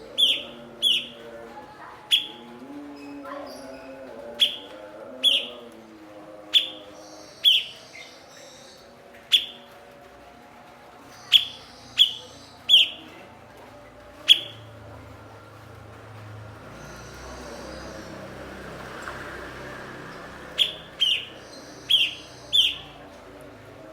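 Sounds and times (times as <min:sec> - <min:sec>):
soft bird chatter: 0:00.0 - 0:23.9.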